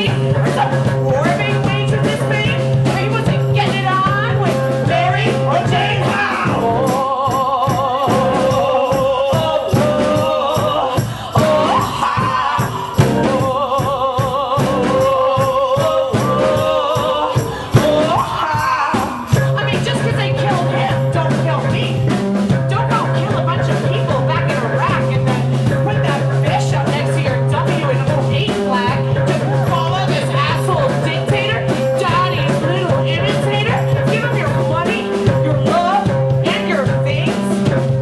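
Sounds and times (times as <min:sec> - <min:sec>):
live rock band playing: 0:00.0 - 0:38.0.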